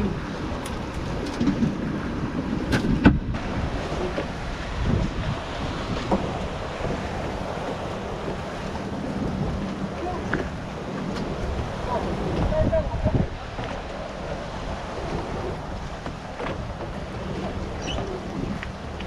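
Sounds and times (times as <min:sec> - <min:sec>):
choppy sea washing: 0:00.0 - 0:19.0
wind buffeting microphone: 0:00.0 - 0:19.0.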